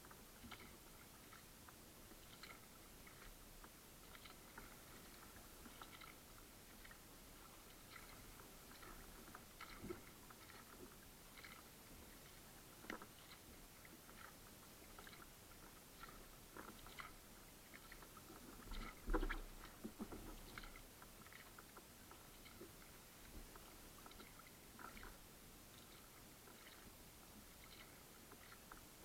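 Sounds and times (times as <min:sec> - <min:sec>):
small water splashes and drips: 0:00.4 - 0:29.0.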